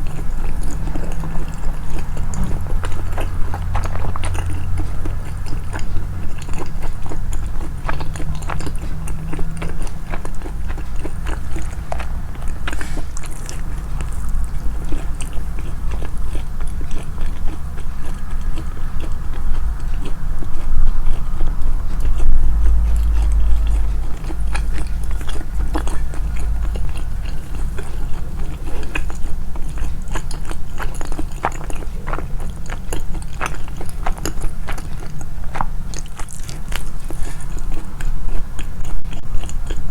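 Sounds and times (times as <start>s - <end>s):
close chewing and biting: 0.0s - 39.9s
heavy low rumble: 0.0s - 39.9s
wet mouth noises: 0.0s - 39.9s.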